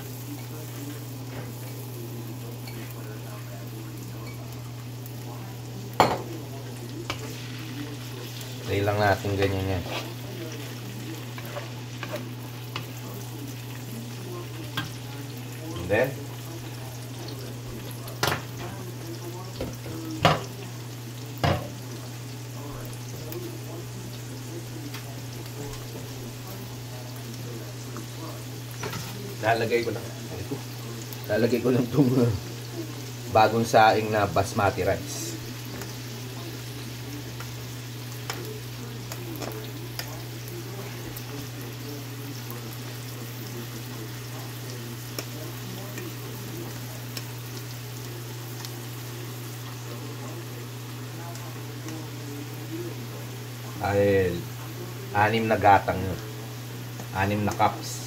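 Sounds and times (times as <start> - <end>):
vegetables sizzling in wok: 0.0 - 58.0.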